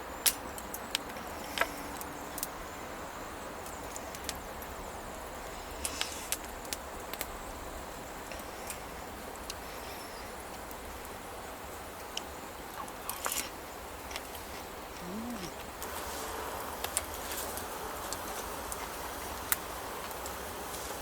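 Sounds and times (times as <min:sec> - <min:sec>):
campfire crackling: 0:00.0 - 0:21.0
low hiss of fire: 0:00.0 - 0:21.0.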